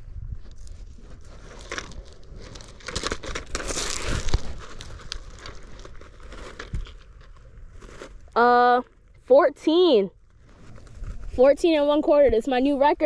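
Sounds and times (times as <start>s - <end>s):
rustling and scraping handling: 0.0s - 9.3s, 10.2s - 12.6s.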